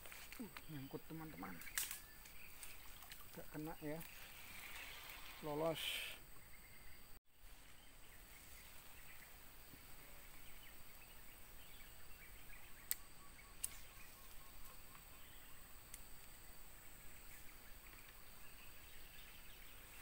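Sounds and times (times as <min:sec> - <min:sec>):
high insect drone: 0:00.0 - 0:20.0
faint bird chirps: 0:00.3 - 0:20.0.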